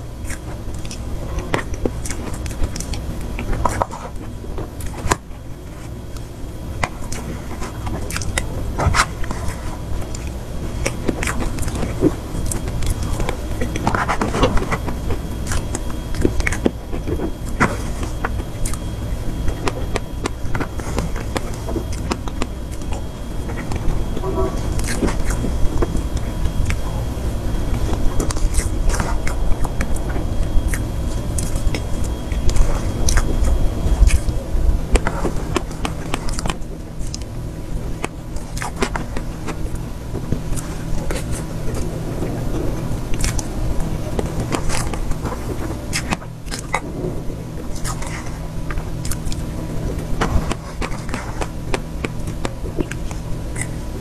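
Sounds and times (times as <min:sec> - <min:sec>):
steady low hum: 0:00.0 - 0:54.0
chewing with mouth clicks: 0:00.1 - 0:54.0.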